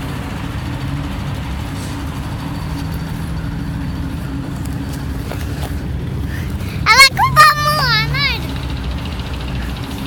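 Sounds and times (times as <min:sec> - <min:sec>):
military vehicle engines droning: 0:00.0 - 0:10.0.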